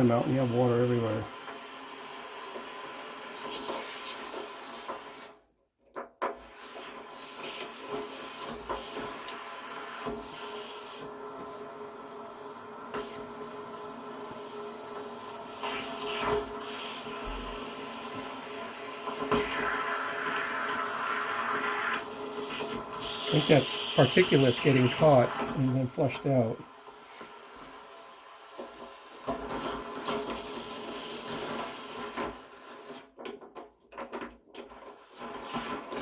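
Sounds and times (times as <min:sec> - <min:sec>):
water flushing from drain valve: 0:00.0 - 0:05.3, 0:06.4 - 0:33.0.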